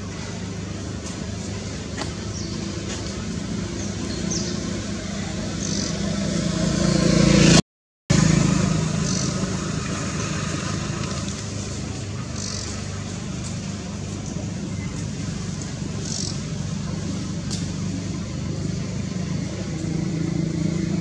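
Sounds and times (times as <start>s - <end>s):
vehicle engine passing: 1.1s - 21.0s.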